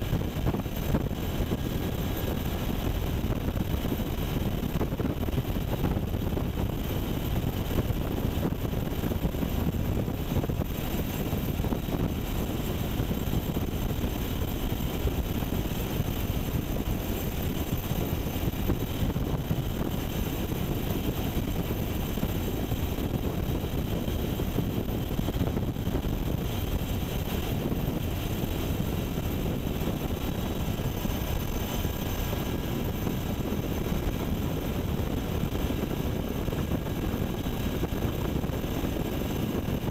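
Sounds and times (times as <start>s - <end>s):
helicopter rotor and engines droning: 0.0s - 39.9s.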